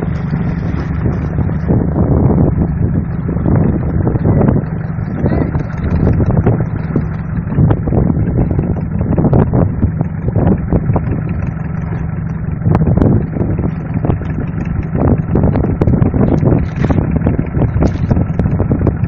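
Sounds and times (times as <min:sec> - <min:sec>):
boat engine running: 0:00.0 - 0:19.0
wind buffeting microphone: 0:00.0 - 0:19.0.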